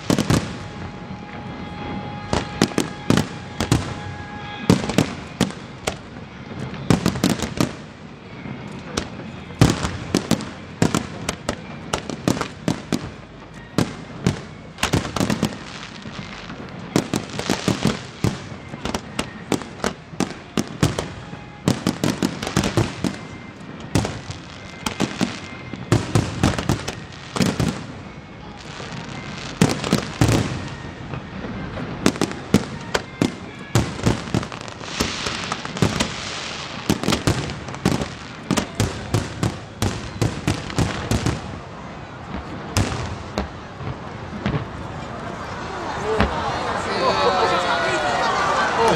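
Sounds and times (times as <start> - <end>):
fireworks bangs and pops: 0.0 - 45.6, 46.2 - 46.6
fireworks crackling: 0.0 - 48.9.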